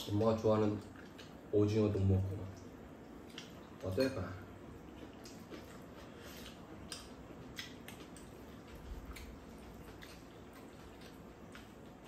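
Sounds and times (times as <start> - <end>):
soft chewing of noodles: 0.2 - 12.0.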